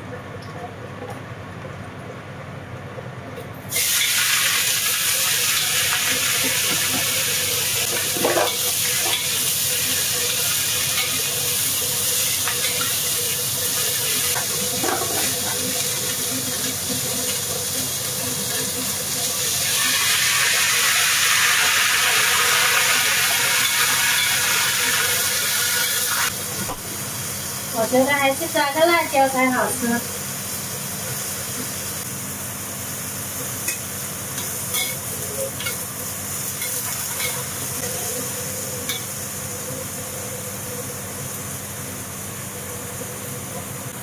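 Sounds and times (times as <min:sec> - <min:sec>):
cabbage sizzling in a wok: 0:03.7 - 0:44.0.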